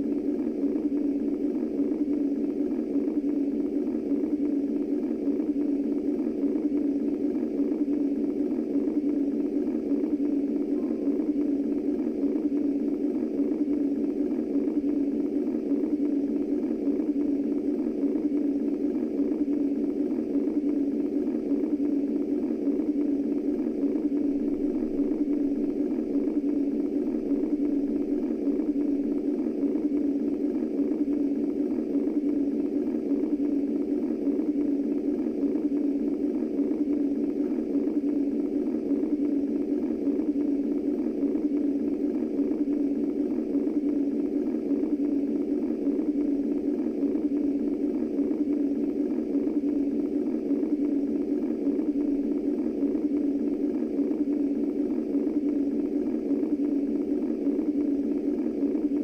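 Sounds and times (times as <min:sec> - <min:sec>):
muffled whooshing white noise: 0:00.0 - 0:59.0.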